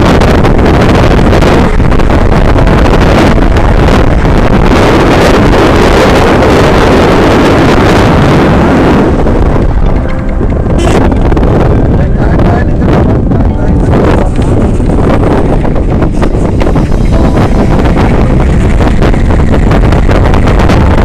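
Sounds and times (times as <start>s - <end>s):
moving vehicle rumble: 0.0s - 21.0s
wind buffeting microphone: 0.0s - 21.0s.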